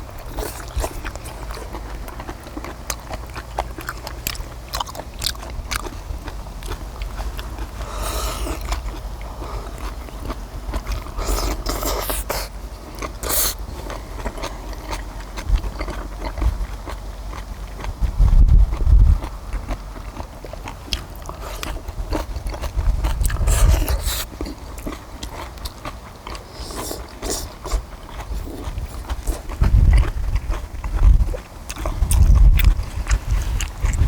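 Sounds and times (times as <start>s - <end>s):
chewing and biting food: 0.0s - 34.0s.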